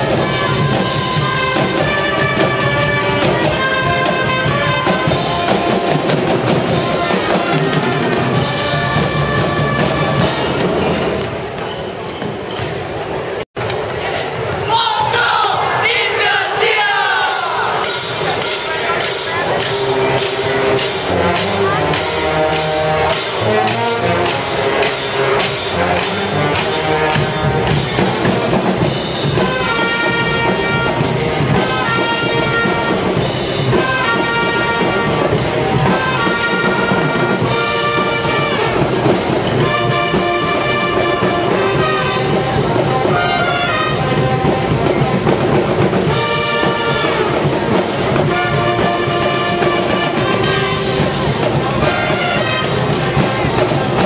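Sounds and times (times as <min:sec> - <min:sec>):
pep band playing: 0:00.0 - 0:11.5, 0:15.9 - 0:54.0
drums and cymbals beat: 0:00.0 - 0:12.5, 0:16.6 - 0:54.0.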